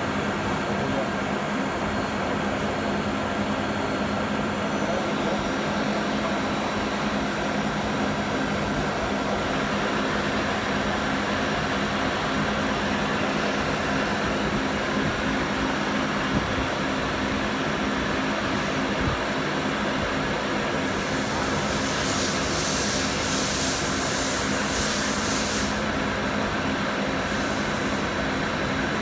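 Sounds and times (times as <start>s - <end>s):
lathe whirring and humming: 0.0s - 29.0s.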